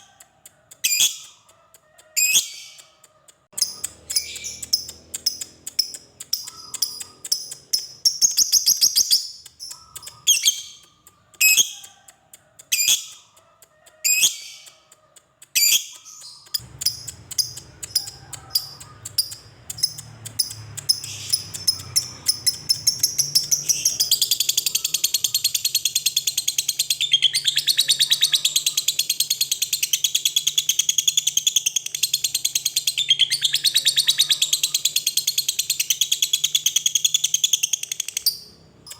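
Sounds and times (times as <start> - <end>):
lovebird chattering: 0.0 - 38.9.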